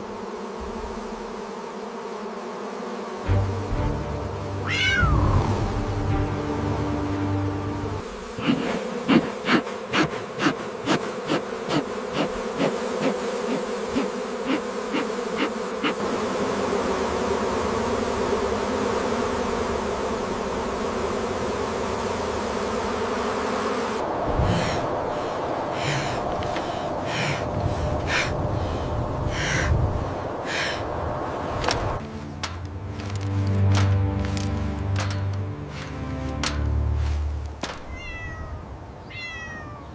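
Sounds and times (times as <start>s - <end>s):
bees buzzing: 0.0s - 37.9s.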